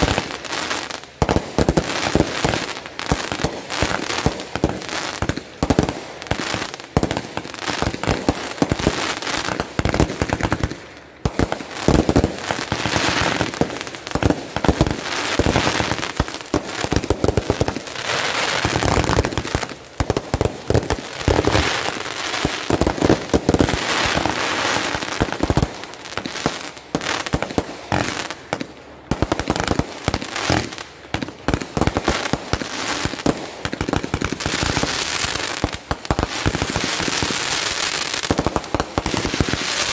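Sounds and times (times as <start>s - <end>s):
fireworks popping and crackling: 0.0s - 39.9s.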